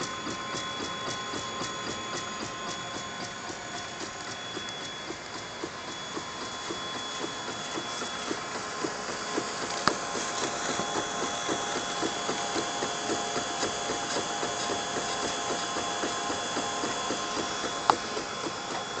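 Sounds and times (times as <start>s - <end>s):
print head ticking: 0.0s - 19.0s
printer motors whining: 0.0s - 19.0s.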